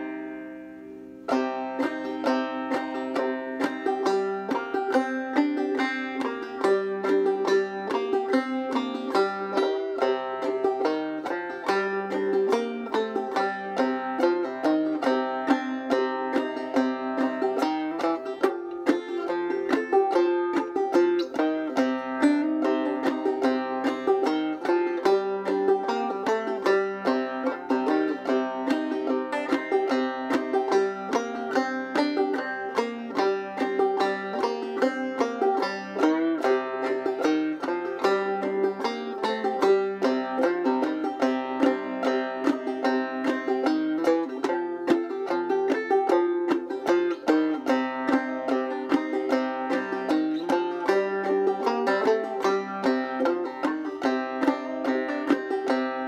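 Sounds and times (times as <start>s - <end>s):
banjo picking: 0.0s - 56.0s.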